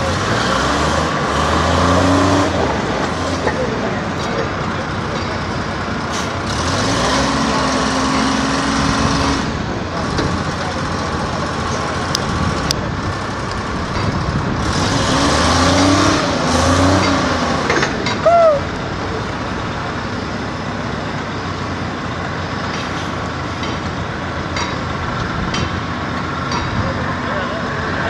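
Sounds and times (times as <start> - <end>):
diesel boat engines rumbling: 0.0 - 28.0.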